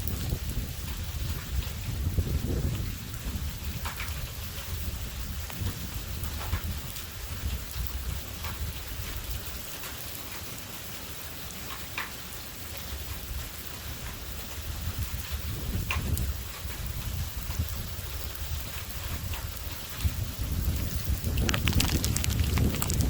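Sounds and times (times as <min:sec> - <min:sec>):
rain hissing: 0:00.0 - 0:23.0
raindrops ticking near microphone: 0:00.0 - 0:23.0.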